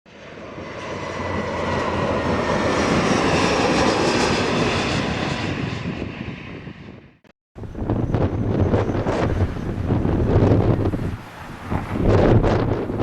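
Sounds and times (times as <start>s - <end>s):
jet airliner passing: 0.1s - 13.0s.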